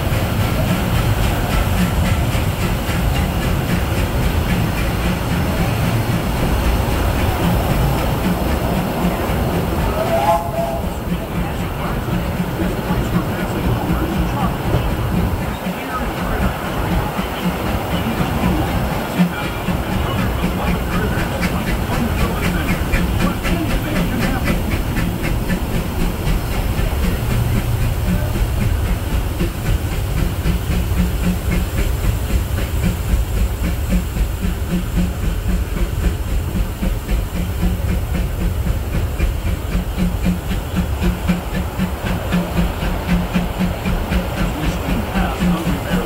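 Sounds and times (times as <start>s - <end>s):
steam locomotive running: 0.0s - 46.0s
train rumbling on track: 0.0s - 46.0s.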